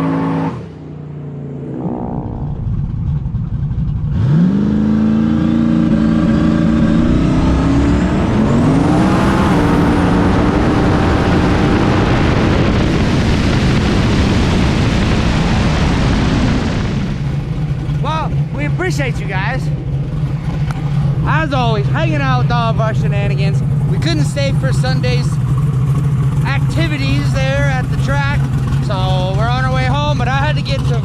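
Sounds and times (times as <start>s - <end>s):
car engine accelerating hard: 0.0s - 31.0s
road noise at speed: 0.0s - 31.0s.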